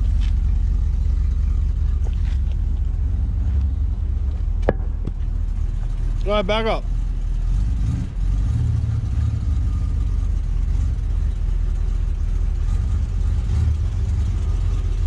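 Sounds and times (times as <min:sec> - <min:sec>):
motorhome engine rumbling near idle: 0:00.0 - 0:15.0.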